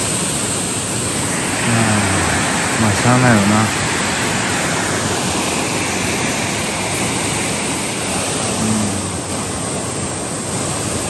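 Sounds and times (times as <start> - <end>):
river water rushing over weir: 0.0 - 11.0.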